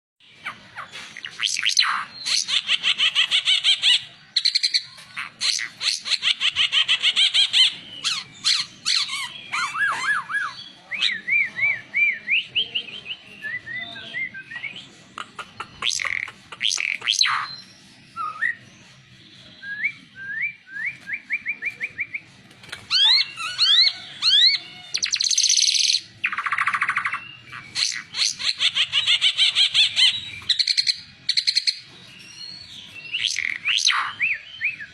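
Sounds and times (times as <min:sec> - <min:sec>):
songbird singing trills and whistles: 0:00.2 - 0:34.9.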